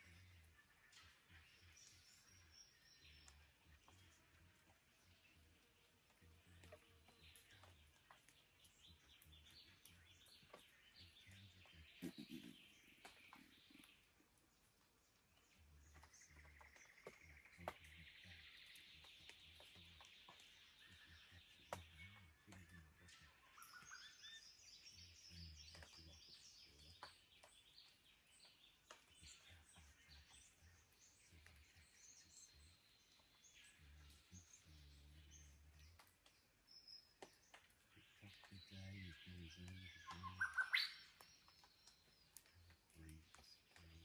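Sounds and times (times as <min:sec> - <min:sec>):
forest birds calling: 0:00.0 - 0:44.0.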